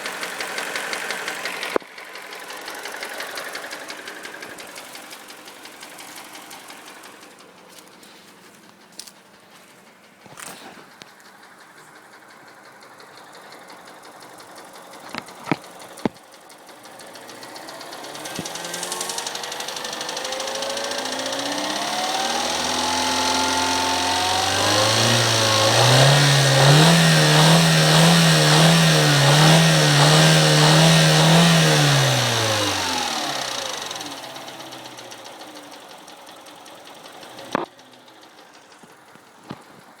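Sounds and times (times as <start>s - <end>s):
car engine knocking and revving: 0.0s - 40.0s.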